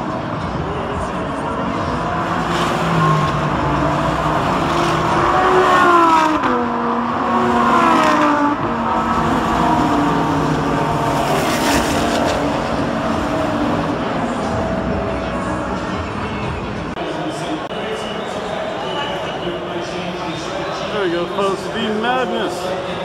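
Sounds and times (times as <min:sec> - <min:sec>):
race cars passing at speed: 0:00.0 - 0:23.0.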